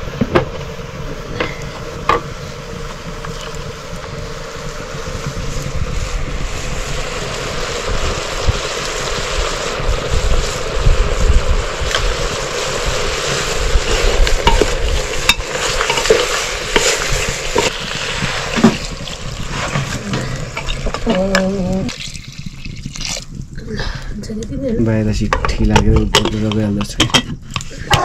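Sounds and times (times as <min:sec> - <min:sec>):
meat sizzling in a pan: 0:00.0 - 0:23.2.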